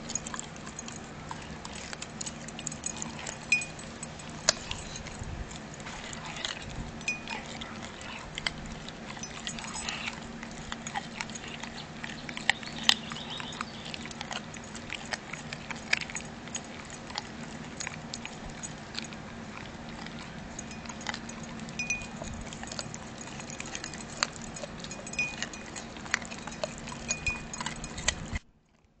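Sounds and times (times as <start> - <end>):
steady low hum: 0.0 - 28.5
puppy chewing bone: 0.0 - 28.9.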